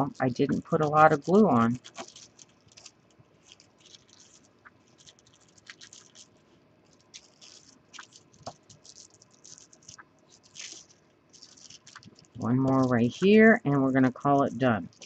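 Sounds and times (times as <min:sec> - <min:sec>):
foil crinkling and rustling: 0:00.0 - 0:15.0.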